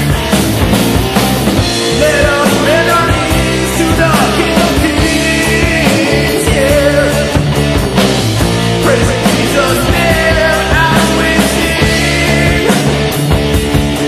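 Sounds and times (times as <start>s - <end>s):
heavy metal rock music: 0.0s - 14.0s.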